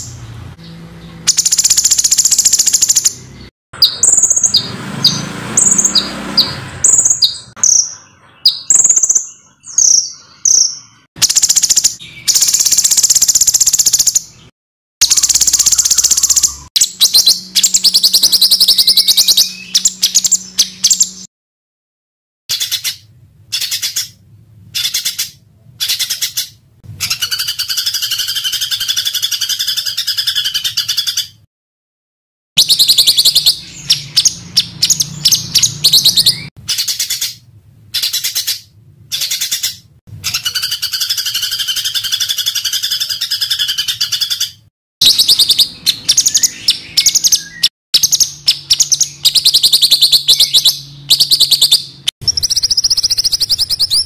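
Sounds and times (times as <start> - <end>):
songbirds rapid harsh trills: 0.0 - 21.3, 22.5 - 31.5, 32.6 - 54.0.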